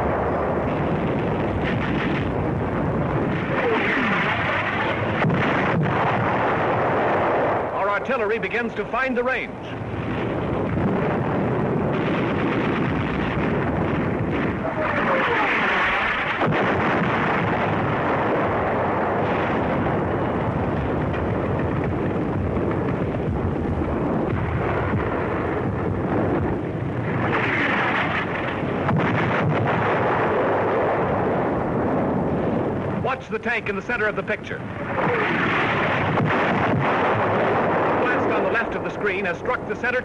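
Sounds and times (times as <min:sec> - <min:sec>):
artillery gunfire and shell bursts: 0:00.0 - 0:40.0.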